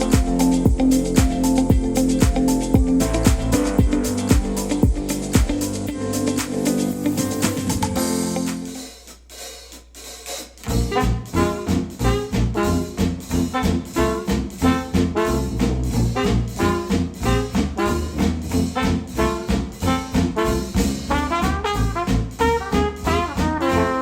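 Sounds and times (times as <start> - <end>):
brass swing jazz music: 0.0 - 8.9, 10.6 - 24.0
held horn chords: 0.0 - 8.9, 10.7 - 24.0.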